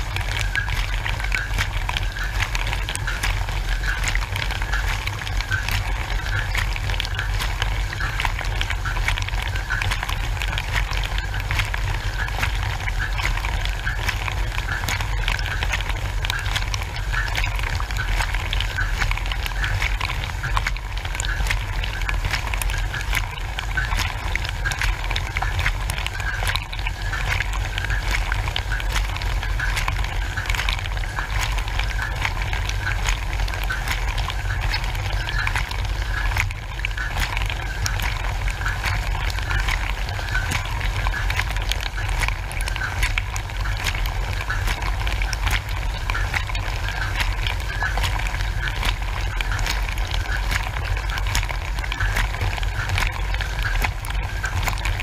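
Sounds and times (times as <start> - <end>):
droplets ticking: 0.0 - 55.0
water jets spattering: 0.0 - 55.0.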